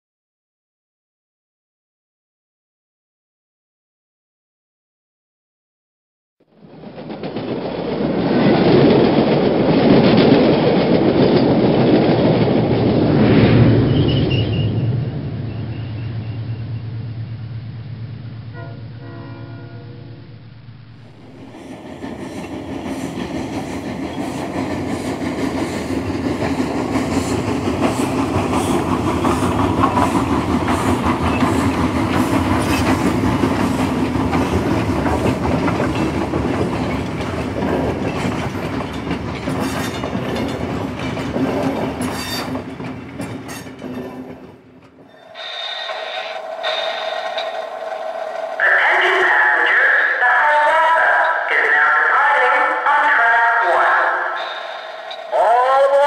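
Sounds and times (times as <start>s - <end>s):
train rumbling along track: 6.4s - 56.0s.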